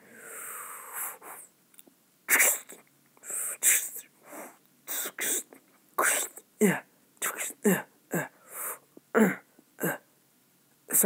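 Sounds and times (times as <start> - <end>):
person making hissing mouth sounds: 0.0 - 1.5, 2.3 - 10.0.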